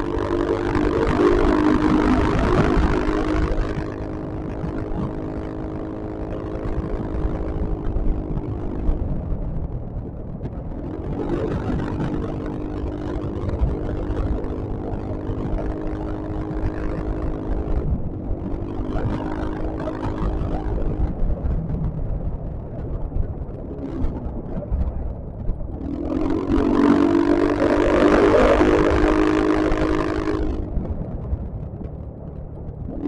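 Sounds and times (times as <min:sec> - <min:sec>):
scooter engine running: 0:00.0 - 0:10.2, 0:10.9 - 0:33.0
wind noise: 0:00.0 - 0:33.0.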